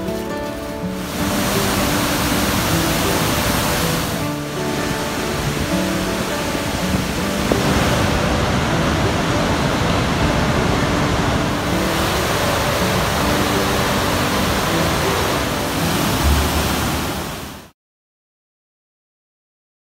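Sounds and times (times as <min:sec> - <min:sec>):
rushing water of waterfalls: 0:00.0 - 0:17.8.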